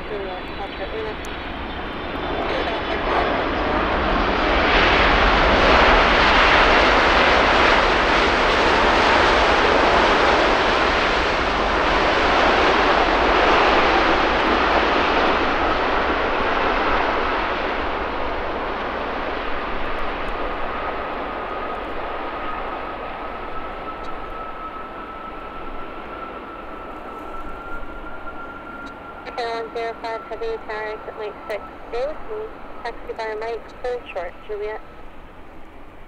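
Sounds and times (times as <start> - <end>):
airliner engines roaring: 0.0 - 36.0.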